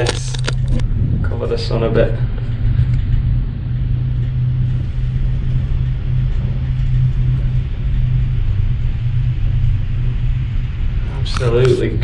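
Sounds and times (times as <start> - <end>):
cable car cabin rumble and hum: 0.0 - 12.0.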